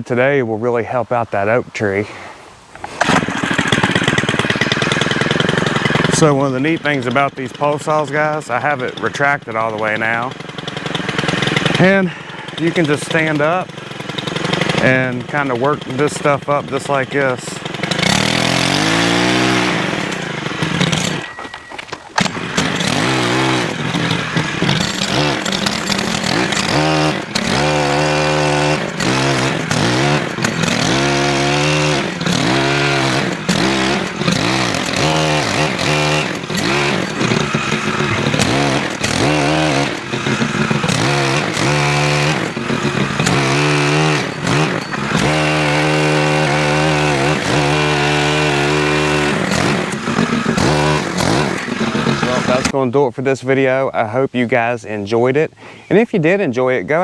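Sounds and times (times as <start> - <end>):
pole saw engine revving: 2.8 - 52.8.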